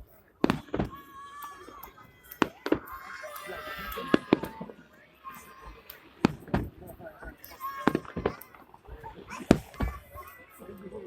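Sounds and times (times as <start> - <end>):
fireworks bursting with sharp bangs: 0.0 - 10.3.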